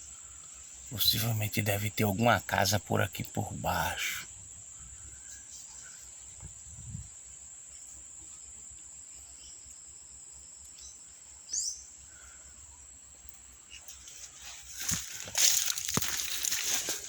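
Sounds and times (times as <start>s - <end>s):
insect high-pitched trill: 0.0s - 17.0s.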